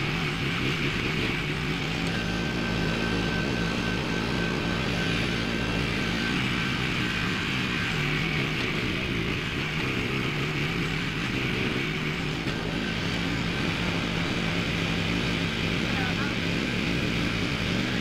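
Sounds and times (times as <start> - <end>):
small petrol engine running: 0.0 - 18.0.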